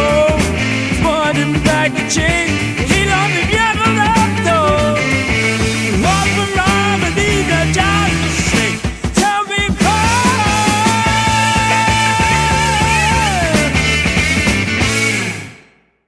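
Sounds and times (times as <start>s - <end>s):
lead guitar bending notes: 0.0s - 8.8s, 9.9s - 15.6s
bass and drums: 0.0s - 15.7s
psychedelic rock music: 0.0s - 15.9s.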